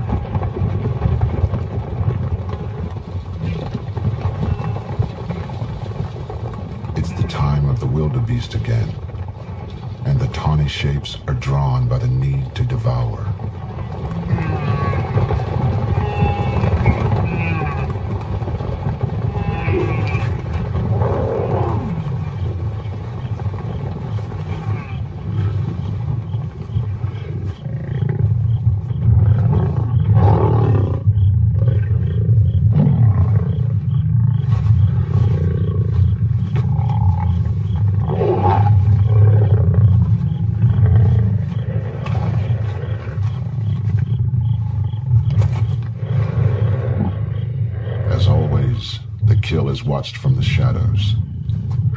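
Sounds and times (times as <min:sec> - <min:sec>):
lions growling: 0:00.0 - 0:51.9.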